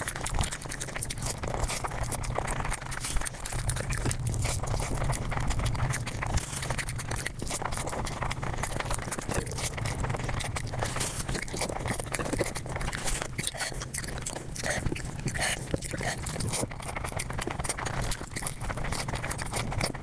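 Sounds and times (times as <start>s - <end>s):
sped-up crunching and chewing: 0.0s - 20.0s.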